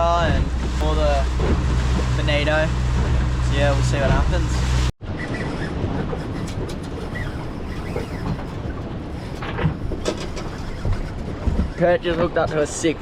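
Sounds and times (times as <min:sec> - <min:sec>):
boat engine rumbling and rattling: 0:00.0 - 0:13.0.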